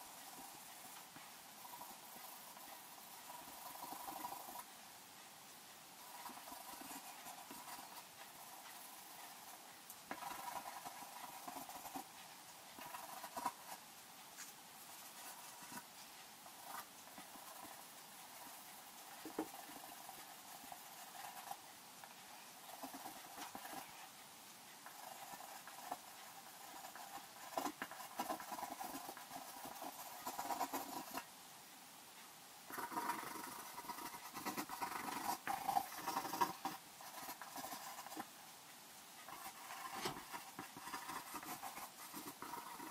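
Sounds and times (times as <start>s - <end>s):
pencil scratching on paper: 0.0s - 4.7s, 6.0s - 24.2s, 24.8s - 31.3s, 32.7s - 38.3s, 39.2s - 42.9s.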